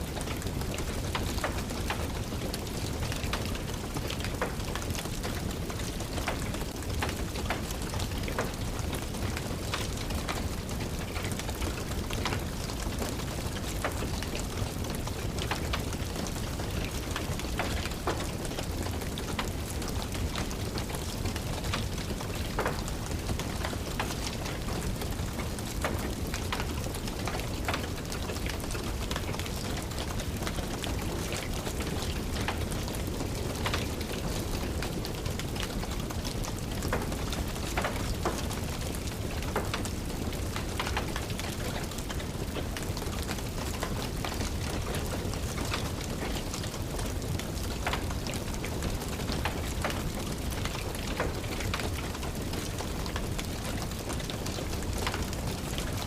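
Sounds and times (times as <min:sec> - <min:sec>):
fireplace fire crackling: 0:00.0 - 0:56.0
steady rain: 0:00.0 - 0:56.0.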